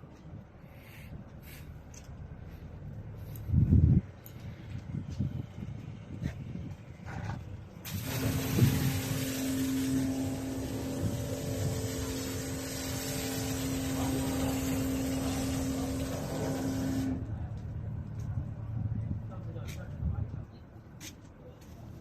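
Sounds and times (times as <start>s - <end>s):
mini excavator running: 0.0s - 20.3s.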